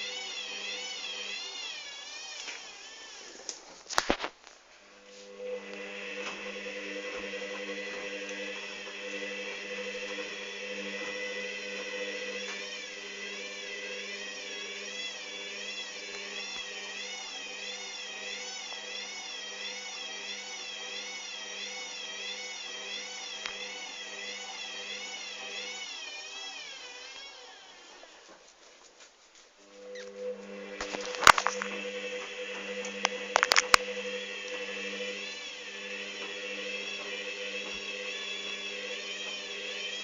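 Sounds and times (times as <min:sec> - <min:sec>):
washing machine spinning: 0:00.0 - 0:03.7, 0:04.8 - 0:28.2, 0:29.6 - 0:40.0.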